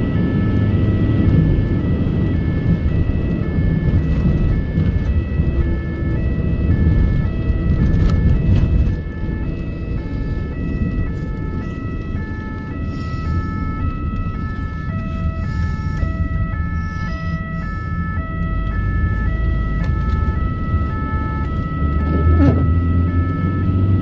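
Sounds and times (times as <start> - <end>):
engine and road rumble: 0.0 - 24.0
two-tone ambulance siren: 0.0 - 24.0.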